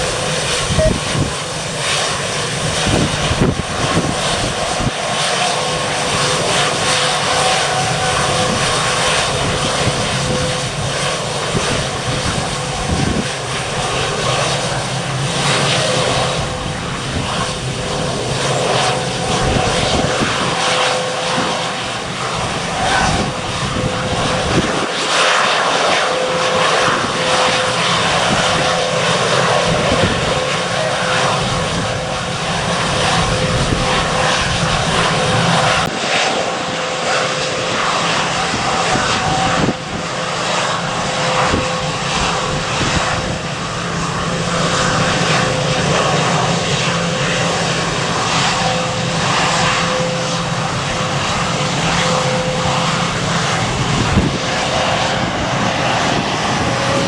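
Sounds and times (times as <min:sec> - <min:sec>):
wind buffeting microphone: 0:00.0 - 0:36.0, 0:36.7 - 0:57.0
airliner engines running: 0:00.0 - 0:57.0.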